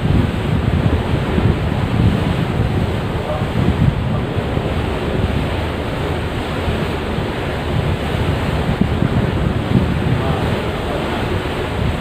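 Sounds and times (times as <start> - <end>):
sea wash: 0.0 - 12.0
wind buffeting the microphone: 0.0 - 12.0.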